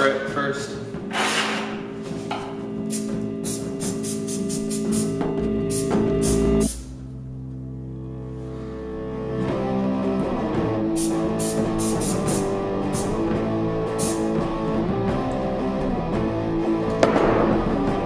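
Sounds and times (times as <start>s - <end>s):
guitar background music: 0.9s - 18.0s.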